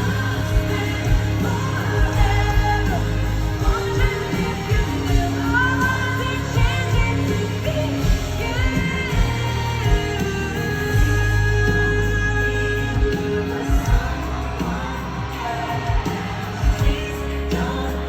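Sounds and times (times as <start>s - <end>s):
live pop concert music: 0.0s - 18.0s.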